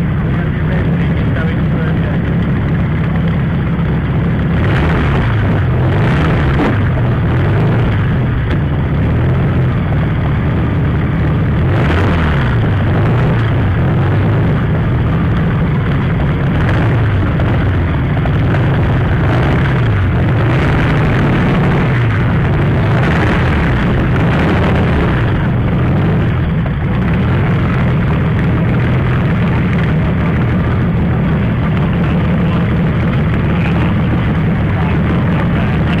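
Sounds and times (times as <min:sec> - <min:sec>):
large piston engine running: 0:00.0 - 0:36.0.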